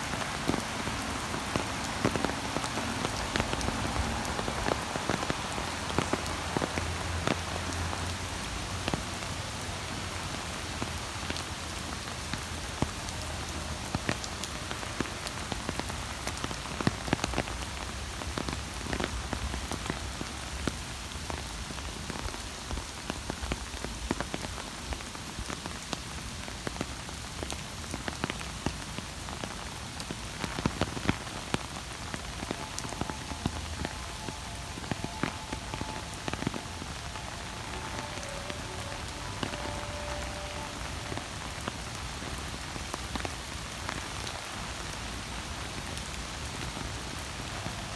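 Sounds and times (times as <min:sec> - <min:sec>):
raindrops ticking close by: 0:00.0 - 0:47.9
steady rain falling: 0:00.0 - 0:47.9.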